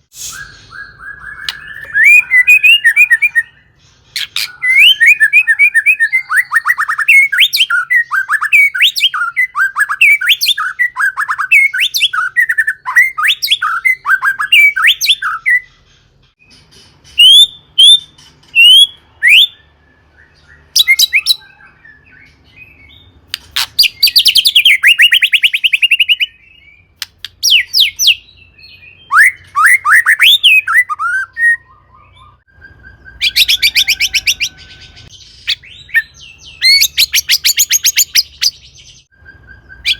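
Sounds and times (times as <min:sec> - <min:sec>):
bird singing whistled notes: 0:00.0 - 0:15.8, 0:17.2 - 0:23.2, 0:23.8 - 0:39.9.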